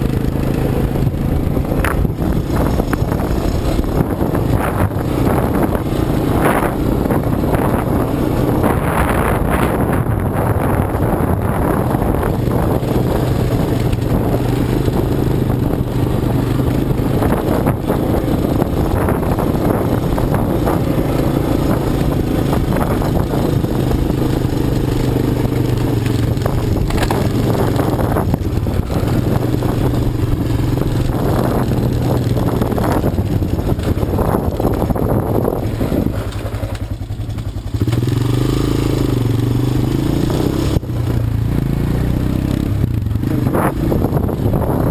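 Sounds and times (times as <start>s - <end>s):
knocks and rattles over rough ground: 0.0s - 41.9s
quad engine running: 0.0s - 44.9s.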